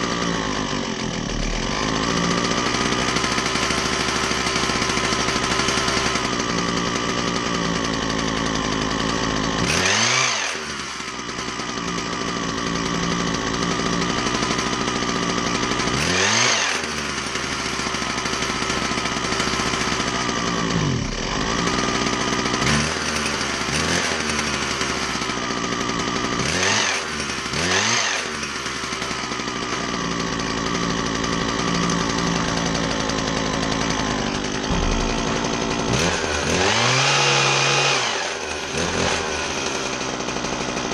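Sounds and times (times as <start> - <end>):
small two-stroke engine idling and revving: 0.0 - 40.9.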